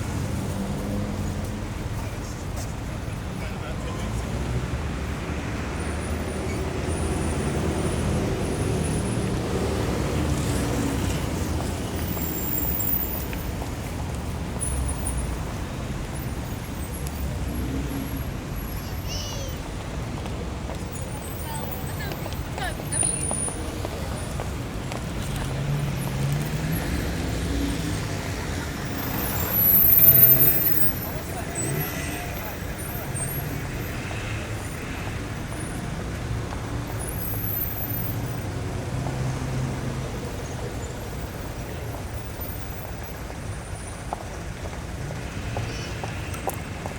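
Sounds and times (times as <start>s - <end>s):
car engines running: 0.0s - 46.9s
tyres on asphalt: 0.0s - 46.9s.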